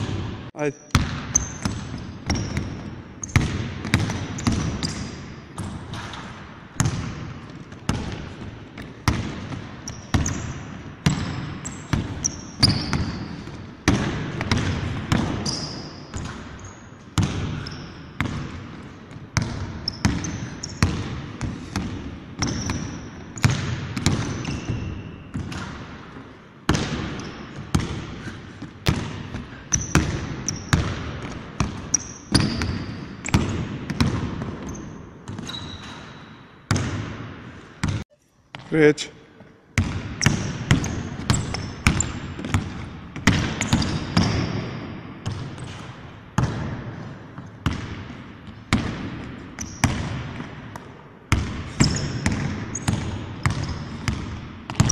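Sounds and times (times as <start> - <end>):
sneakers squeaking on floor: 0.0 - 37.2, 37.8 - 54.9
basketball bouncing on hardwood: 0.9 - 16.6, 17.2 - 17.6, 18.2 - 26.0, 26.7 - 35.6, 39.8 - 46.8, 47.4 - 54.9.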